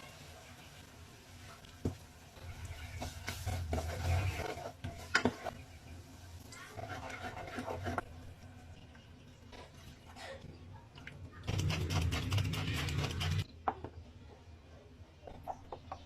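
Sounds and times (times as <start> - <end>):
rubbing and stirring noises: 0.0 - 13.5.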